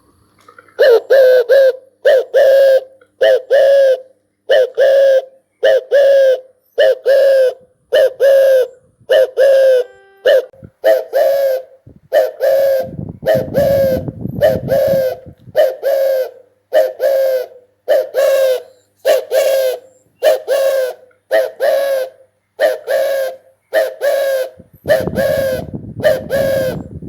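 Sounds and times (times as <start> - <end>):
dove cooing: 0.8 - 27.0.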